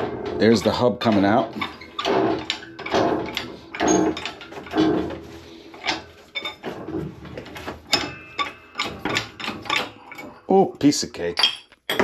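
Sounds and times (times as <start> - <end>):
metal clunks and scrapes: 0.0 - 10.4.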